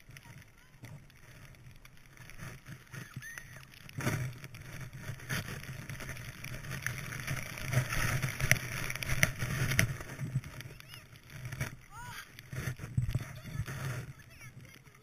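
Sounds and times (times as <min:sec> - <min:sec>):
skis swishing through powder snow: 0:00.0 - 0:15.0
wind rushing over microphone: 0:02.4 - 0:15.0.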